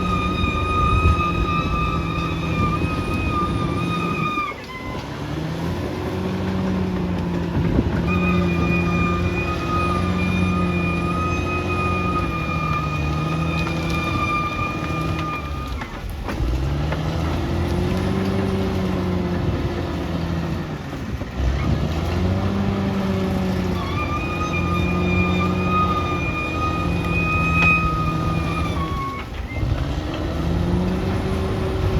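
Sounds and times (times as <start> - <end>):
bulldozer diesel engine under load: 0.0 - 31.9.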